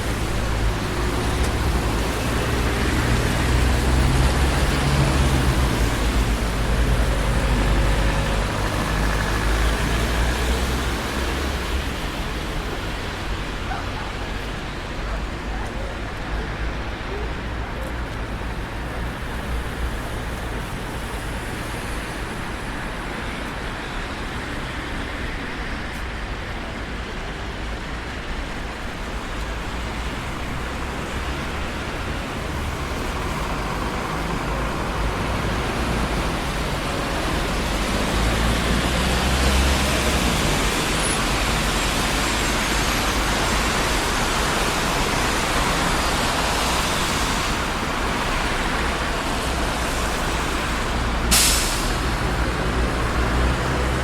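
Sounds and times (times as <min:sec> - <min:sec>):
city street traffic: 0:00.0 - 0:54.0.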